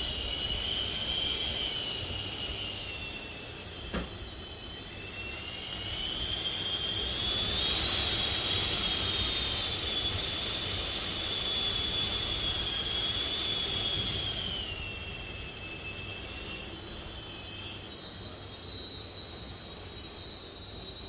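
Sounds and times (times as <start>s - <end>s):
wind whistling through a gap: 0.0s - 21.0s.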